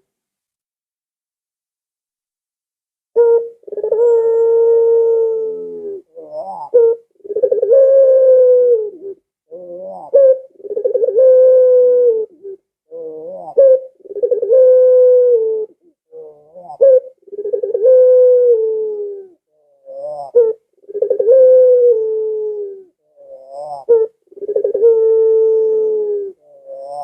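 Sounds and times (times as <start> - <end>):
dove cooing: 3.2 - 27.0.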